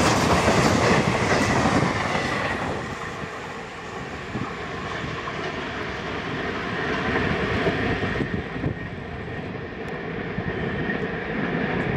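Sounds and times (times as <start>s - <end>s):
train passing on track: 0.0s - 11.9s.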